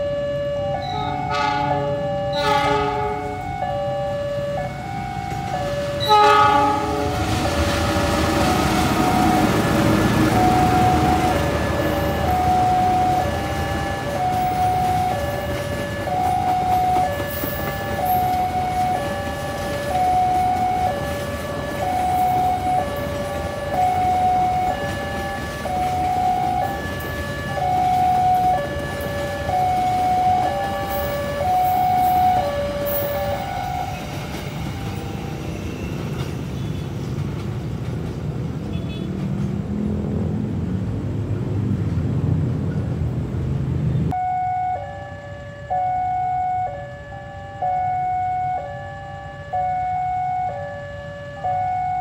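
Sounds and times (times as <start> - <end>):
two-tone warning alarm: 0.0 - 36.7, 44.1 - 52.0
train rumbling: 0.0 - 44.2.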